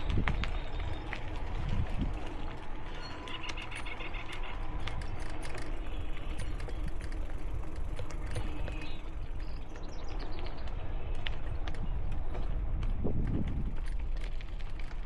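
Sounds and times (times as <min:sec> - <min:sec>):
wind on microphone: 0:00.0 - 0:03.0, 0:03.6 - 0:14.4
bike clicks and rattles: 0:00.0 - 0:15.0
tyres on dirt: 0:00.0 - 0:15.0.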